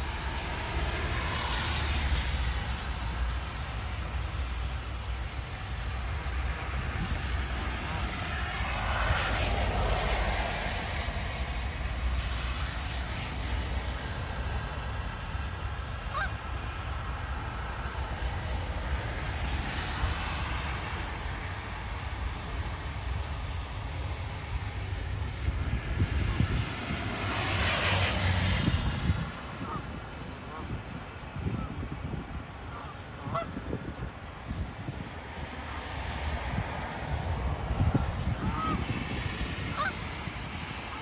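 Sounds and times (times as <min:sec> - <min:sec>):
low traffic rumble: 0:00.0 - 0:41.0
vehicles passing on wet road: 0:00.0 - 0:41.0.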